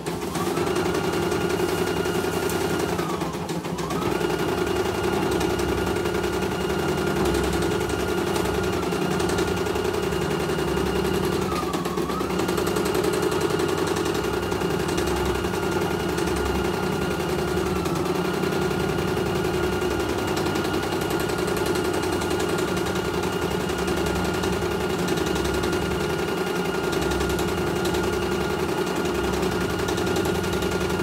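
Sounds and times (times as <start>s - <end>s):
embroidery machine motor whirring: 0.0s - 31.0s.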